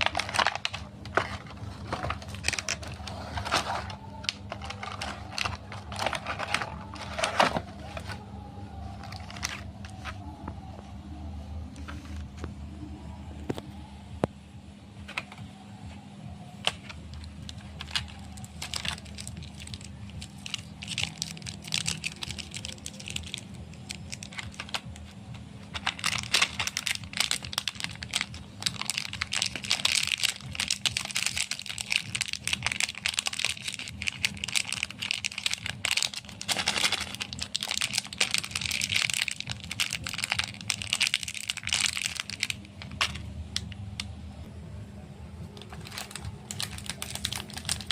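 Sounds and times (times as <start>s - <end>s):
wrappers crinkling and crackling: 0.0s - 10.3s, 16.6s - 43.8s, 45.5s - 47.9s
faint low hum: 0.0s - 47.9s.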